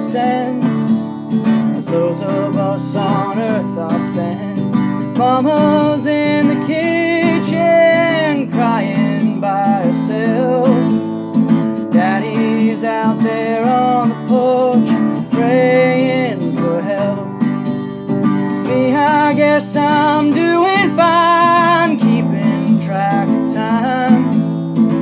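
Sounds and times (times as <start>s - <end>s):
acoustic guitar strumming: 0.0s - 25.0s
person singing country song: 0.0s - 25.0s.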